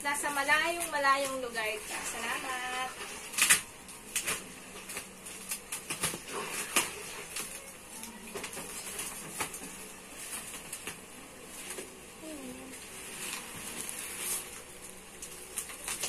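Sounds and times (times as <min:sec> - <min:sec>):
bubble wrap crinkling: 0:00.0 - 0:16.0.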